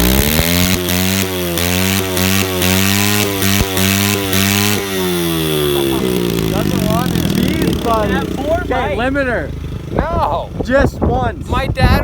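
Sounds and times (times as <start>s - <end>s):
motorbike engine revving with stutter: 0.0s - 12.0s.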